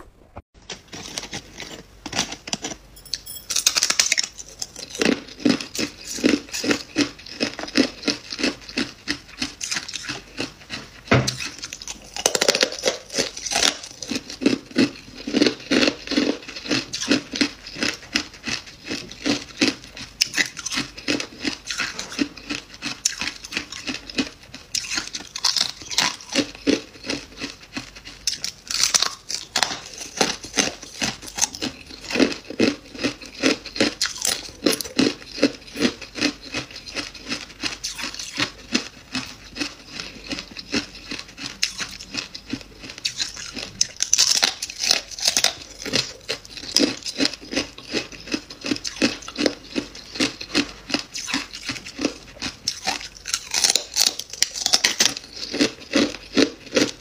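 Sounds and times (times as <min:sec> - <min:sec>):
crisp crunches of chewing frost: 0:03.8 - 0:57.0.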